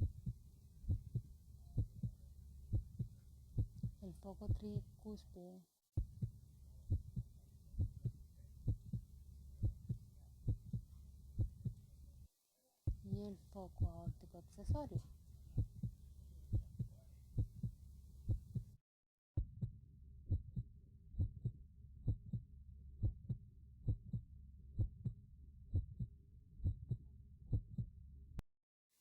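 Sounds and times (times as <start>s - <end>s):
heartbeat through stethoscope: 0.0s - 5.0s, 6.0s - 11.8s, 12.9s - 18.8s, 19.4s - 22.4s, 23.0s - 27.9s.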